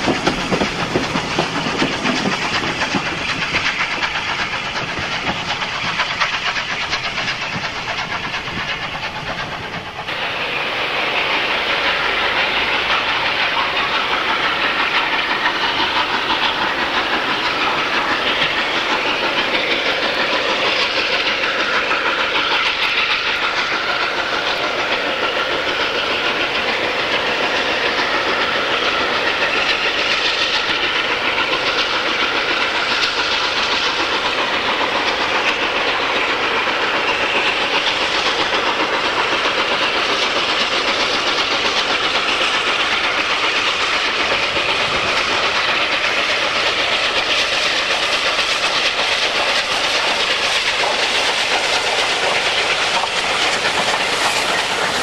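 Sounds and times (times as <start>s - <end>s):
steam locomotive exhaust: 0.0s - 55.0s
train coaches running past: 0.0s - 55.0s.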